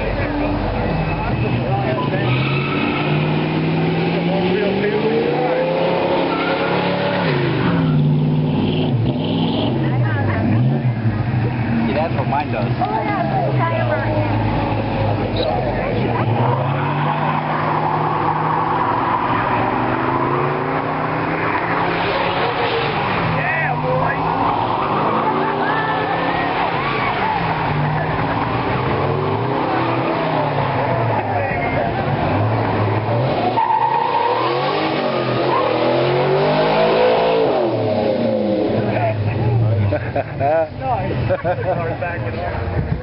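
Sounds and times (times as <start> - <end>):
car engine revving hard: 1.0 - 40.4.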